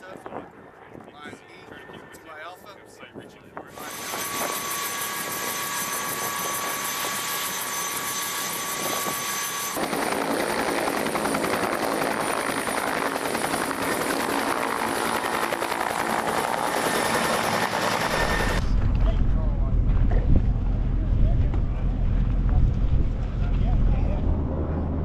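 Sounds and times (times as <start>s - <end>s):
helicopter rotor beating: 1.5s - 25.0s
turbine whine: 3.6s - 25.0s.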